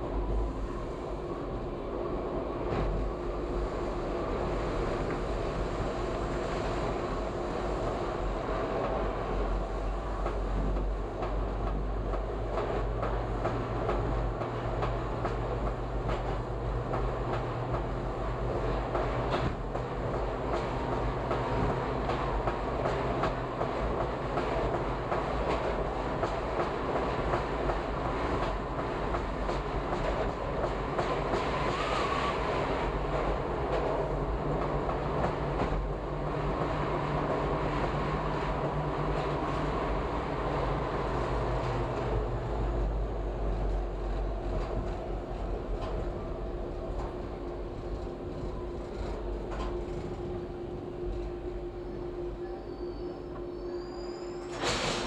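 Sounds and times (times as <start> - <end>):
subway train rumbling: 0.0 - 55.0.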